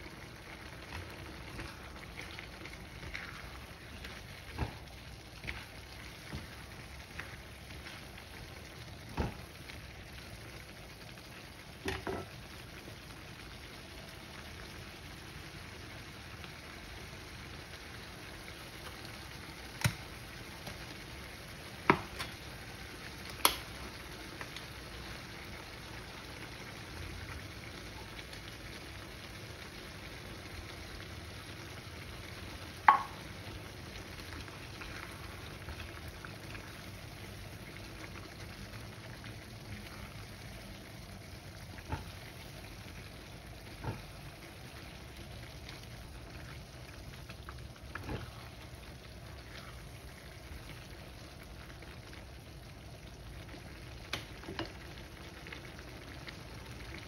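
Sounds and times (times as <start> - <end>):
vegetables sizzling in a frying pan: 0.0 - 57.0.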